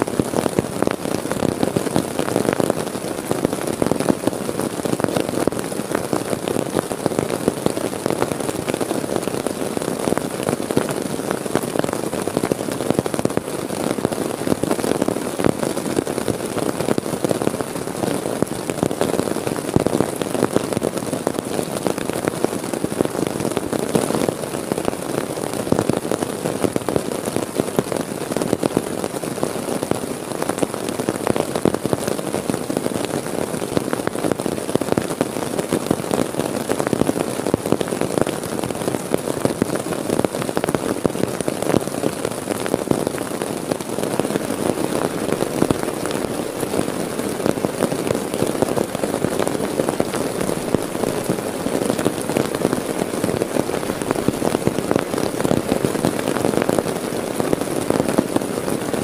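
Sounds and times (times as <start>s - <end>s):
heavy rain on tent fabric: 0.0s - 59.0s.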